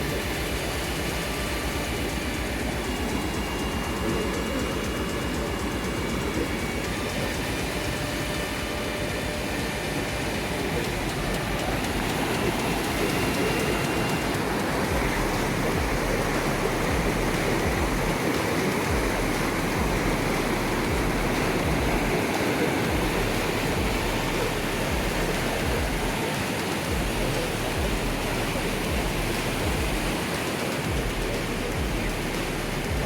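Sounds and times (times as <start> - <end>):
falling water roaring: 0.0 - 33.0.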